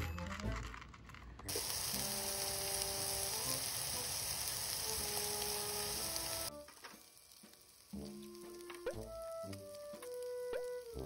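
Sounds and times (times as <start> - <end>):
meat sizzling in a frying pan: 1.5 - 11.0.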